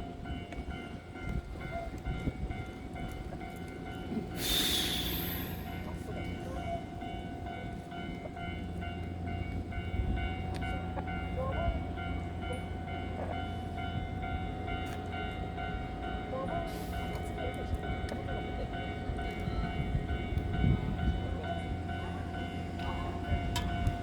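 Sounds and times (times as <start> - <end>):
electric train humming: 0.0 - 24.0.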